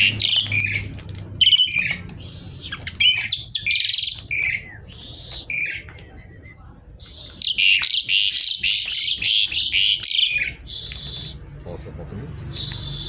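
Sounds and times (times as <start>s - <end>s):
starling chattering song: 0.0s - 11.5s, 12.3s - 13.0s.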